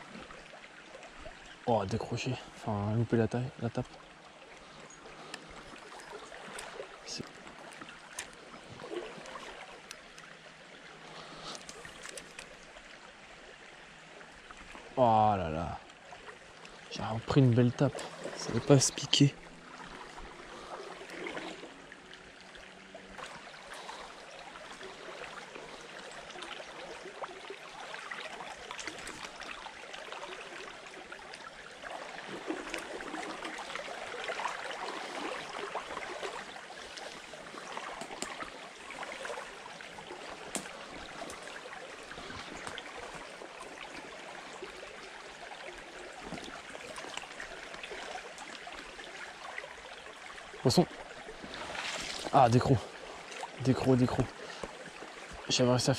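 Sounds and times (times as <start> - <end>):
stream babbling over rocks: 0.0 - 55.9.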